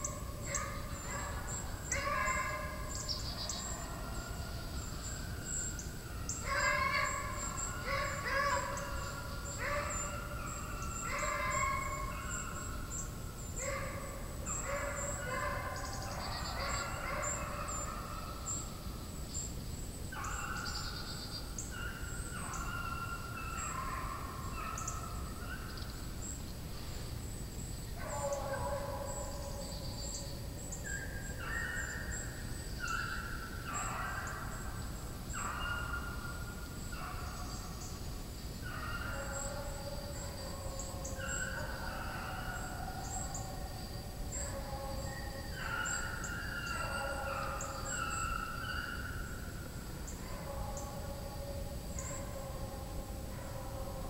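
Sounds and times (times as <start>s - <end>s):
hounds baying: 0.0s - 5.6s, 6.4s - 18.6s, 20.1s - 25.7s, 28.0s - 30.2s, 30.9s - 37.6s, 38.6s - 54.0s.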